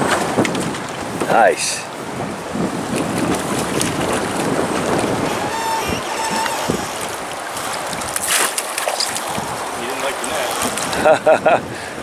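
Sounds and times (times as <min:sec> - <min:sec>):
wind on microphone: 0:00.0 - 0:12.0
river current rushing: 0:01.0 - 0:11.0.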